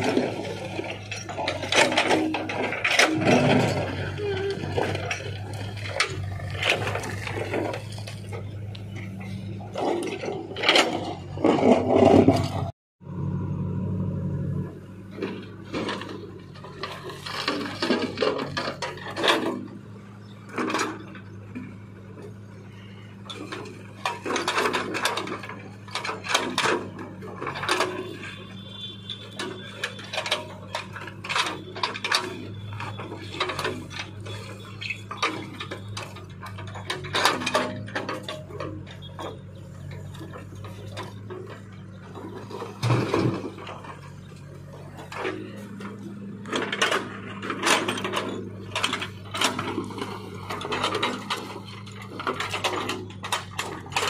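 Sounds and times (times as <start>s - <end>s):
steel bucket clanking on rock: 0.0s - 12.7s, 23.2s - 54.0s
diesel engine running: 0.0s - 54.0s.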